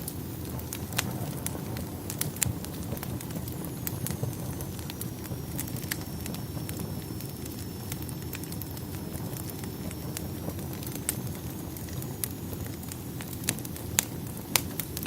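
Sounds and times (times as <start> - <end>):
low rumble of burning logs: 0.0 - 15.0
wood fire crackling and popping: 0.0 - 15.0.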